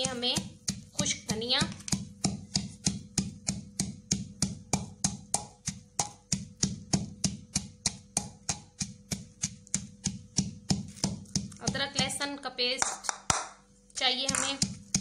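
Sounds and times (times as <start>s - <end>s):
pestle pounding in mortar: 0.0s - 12.2s, 12.8s - 13.6s, 14.2s - 15.0s.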